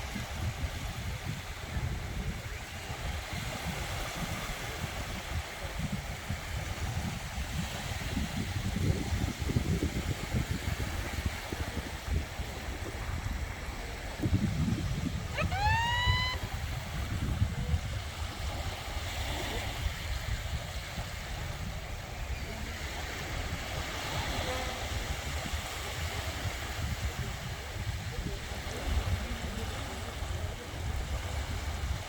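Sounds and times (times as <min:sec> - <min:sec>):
sea waves washing on beach: 0:00.0 - 0:32.0.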